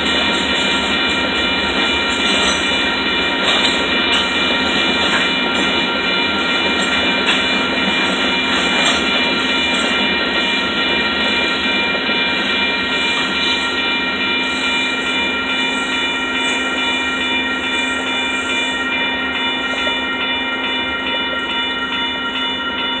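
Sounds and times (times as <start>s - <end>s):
freight train rolling past: 0.0s - 23.0s
steady ringing tones: 0.0s - 23.0s.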